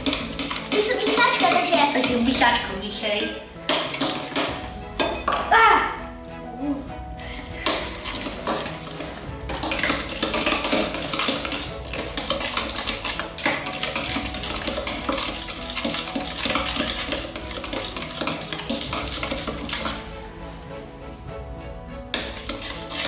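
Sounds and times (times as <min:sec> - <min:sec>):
spoon scraping glass bowl: 0:00.0 - 0:05.5, 0:07.2 - 0:20.2, 0:22.2 - 0:23.0.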